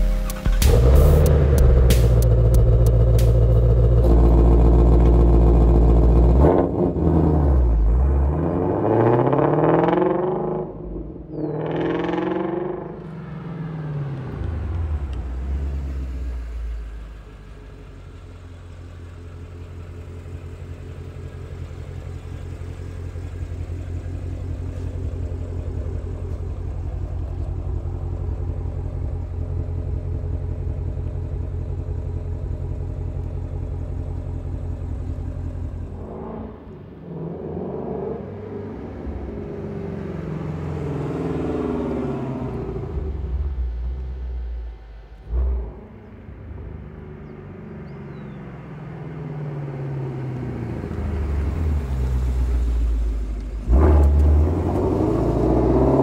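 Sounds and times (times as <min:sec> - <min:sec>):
car engine revving and idling: 0:00.0 - 0:56.0.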